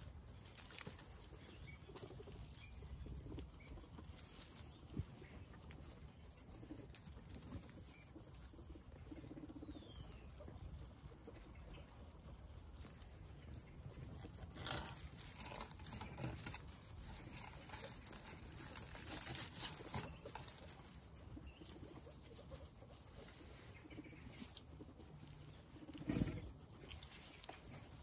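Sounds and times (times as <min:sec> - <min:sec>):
guinea pigs crunching and nibbling: 0:00.0 - 0:28.0.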